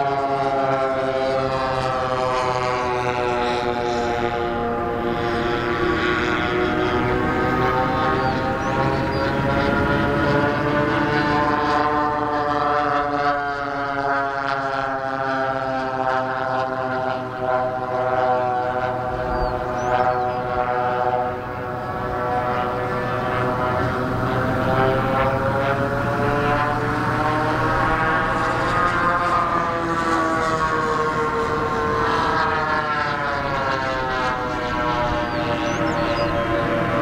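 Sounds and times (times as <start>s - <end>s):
model plane propeller drone: 0.0s - 37.0s.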